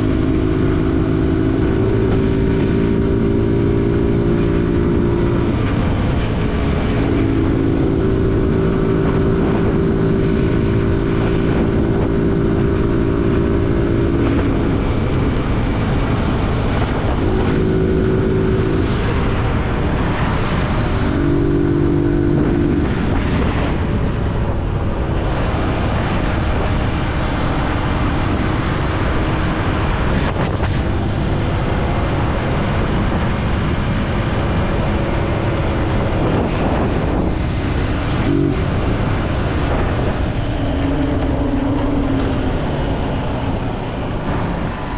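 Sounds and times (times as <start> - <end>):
motorcycle engine running: 0.0 - 44.9
wind rush: 0.0 - 44.9.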